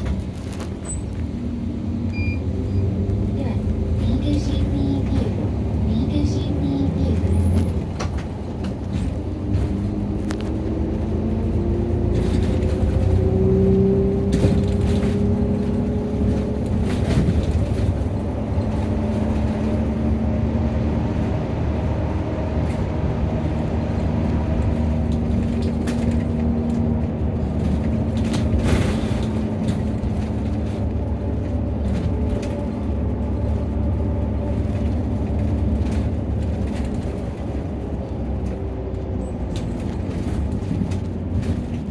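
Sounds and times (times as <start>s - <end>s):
bus diesel engine running: 0.0s - 41.9s
low road rumble: 0.0s - 41.9s.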